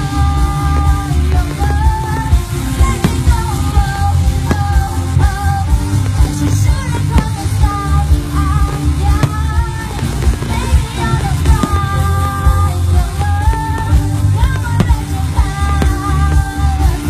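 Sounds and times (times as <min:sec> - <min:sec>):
heavy bass beat: 0:00.0 - 0:17.0
pop song with singing: 0:00.0 - 0:17.0.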